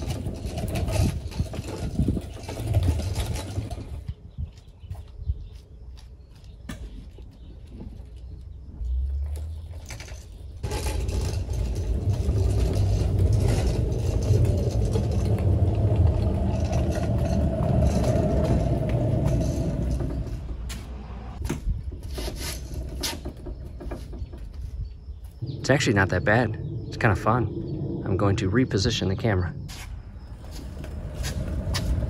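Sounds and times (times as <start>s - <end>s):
caster wheels rumbling on asphalt: 0.0s - 5.4s, 7.4s - 32.0s.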